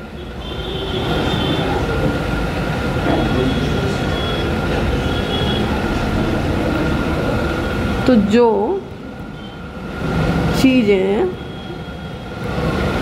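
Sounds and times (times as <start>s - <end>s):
loud steady rumbling: 0.0s - 13.0s.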